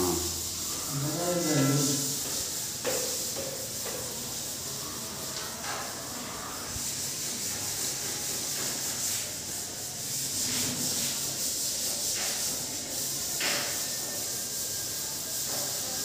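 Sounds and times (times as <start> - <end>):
high hiss: 0.0 - 16.0
rubbing against textured wall: 0.0 - 16.0.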